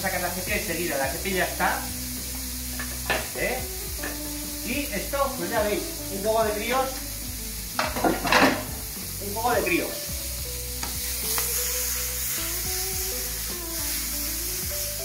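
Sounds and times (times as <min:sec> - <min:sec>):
cuttlefish sizzling on a griddle: 0:00.0 - 0:15.0.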